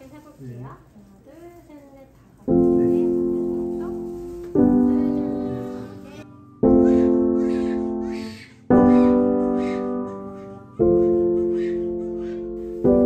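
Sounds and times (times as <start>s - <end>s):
soft piano chords: 2.4s - 13.0s.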